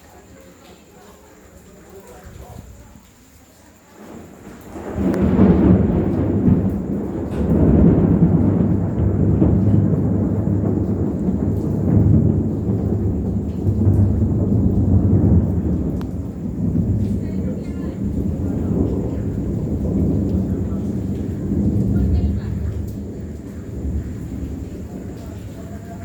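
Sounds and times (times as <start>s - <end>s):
thunder rumbling: 3.8s - 26.0s.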